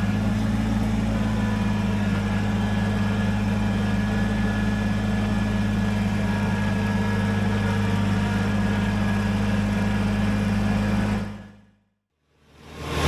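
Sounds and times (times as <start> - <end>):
tractor diesel engine droning: 0.0 - 11.5.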